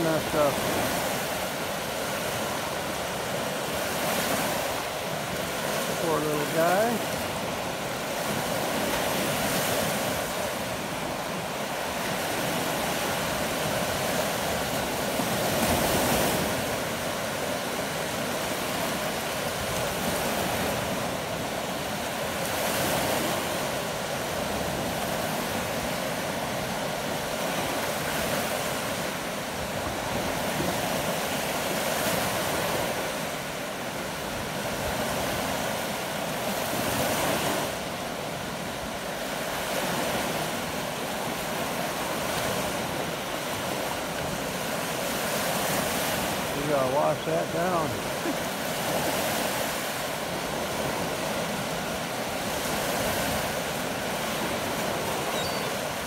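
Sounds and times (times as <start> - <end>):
waves washing on sandy beach: 0.0 - 56.0
wind: 0.0 - 56.0.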